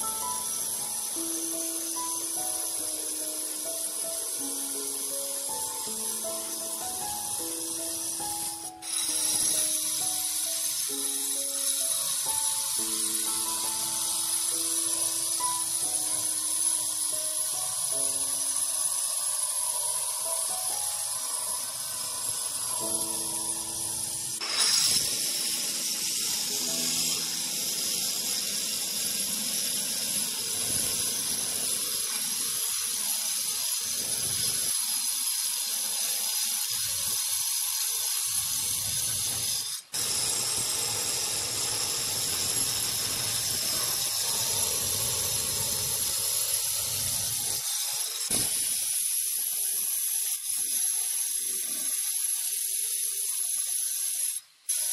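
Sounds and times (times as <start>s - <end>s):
stone-cutting saw grinding: 0.0s - 54.9s.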